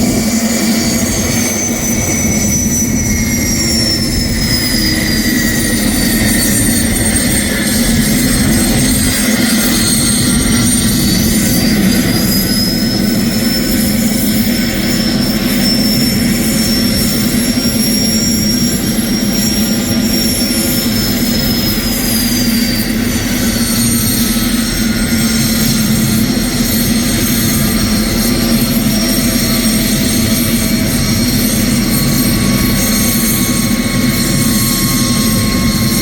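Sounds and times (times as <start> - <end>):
helicopter turbine engine whining: 0.0 - 36.0.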